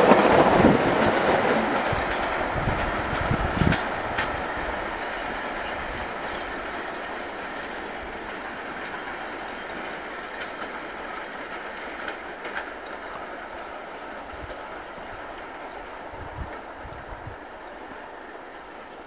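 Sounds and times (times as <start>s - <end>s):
wheels clicking over rail joints: 0.0s - 16.7s
train rumbling along track: 0.0s - 19.0s.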